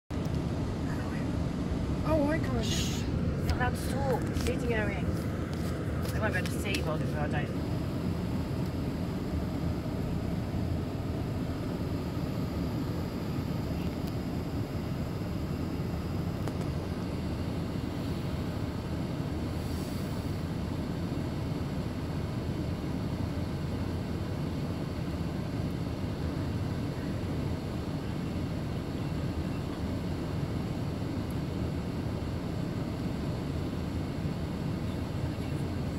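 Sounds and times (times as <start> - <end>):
vehicle engine rumble: 0.1 - 35.9.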